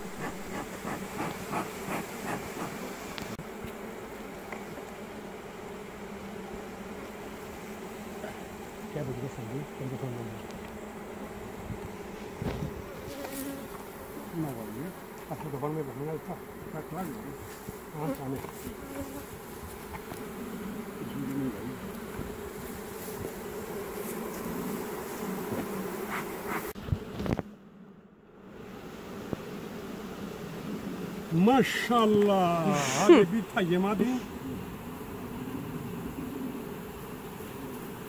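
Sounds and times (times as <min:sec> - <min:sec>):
bees buzzing: 0:00.0 - 0:38.0.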